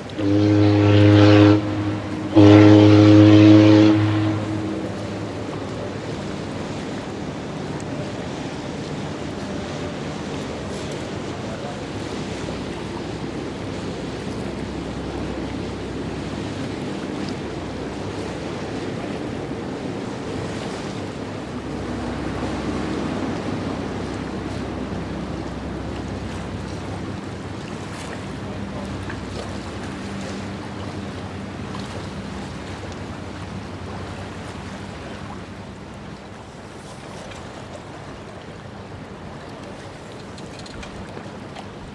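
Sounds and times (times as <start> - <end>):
steady water noise: 0.0 - 41.9.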